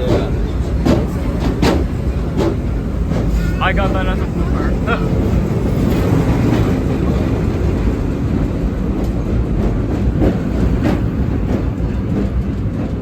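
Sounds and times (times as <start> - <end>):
subway train rumbling: 0.0 - 13.0
wheels clacking over rail joints: 0.0 - 13.0.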